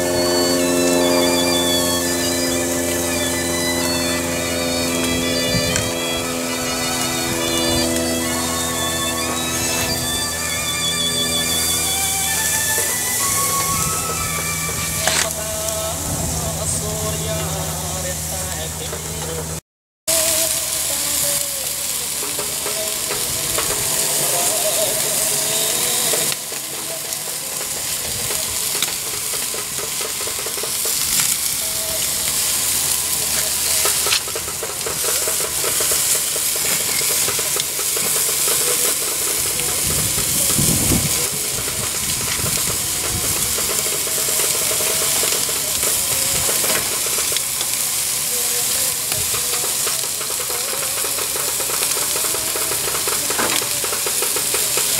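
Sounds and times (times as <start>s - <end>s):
meat sizzling on a grill: 0.0s - 54.9s.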